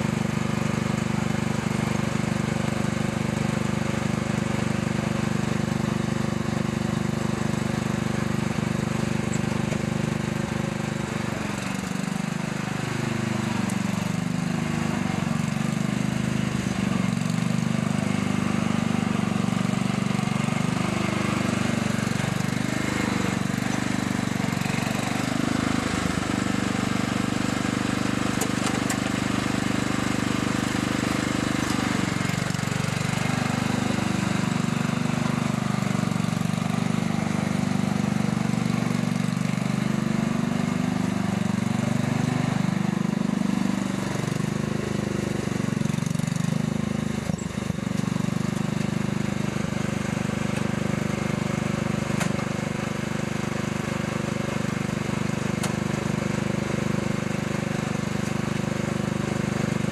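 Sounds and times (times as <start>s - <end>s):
lawnmower engine labouring: 0.0s - 59.9s.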